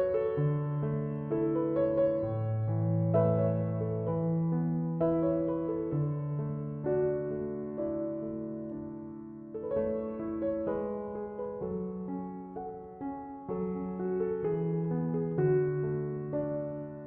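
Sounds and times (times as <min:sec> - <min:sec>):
soft slow piano music: 0:00.0 - 0:17.0.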